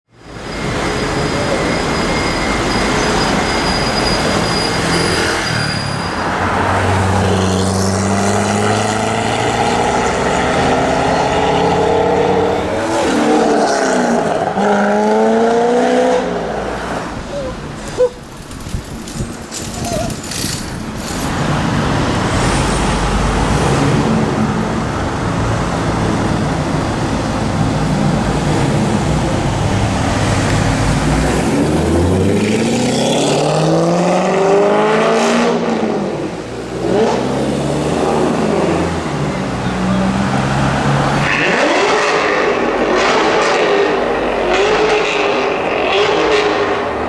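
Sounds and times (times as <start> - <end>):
car engine rumbling and accelerating: 4.2 - 47.0.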